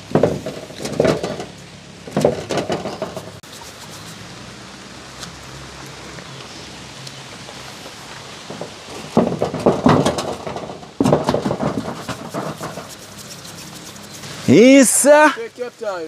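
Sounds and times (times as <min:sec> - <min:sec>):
rain hissing in trees: 0:00.0 - 0:16.0.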